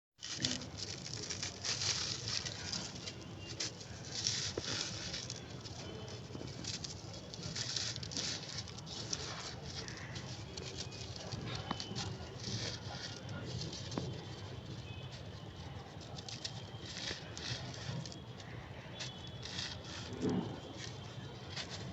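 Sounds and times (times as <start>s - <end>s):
brittle material crunching: 0.2s - 21.9s.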